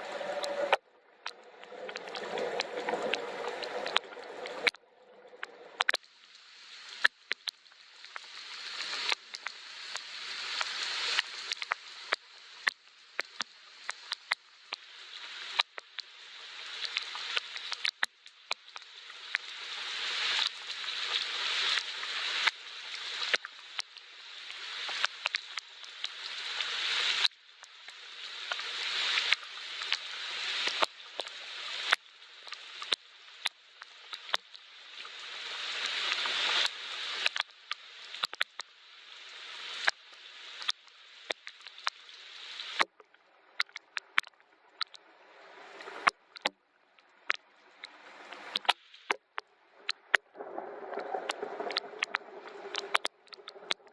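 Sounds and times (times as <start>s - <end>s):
raindrops striking close by: 0.0s - 53.9s
soft rain hiss: 0.0s - 53.9s.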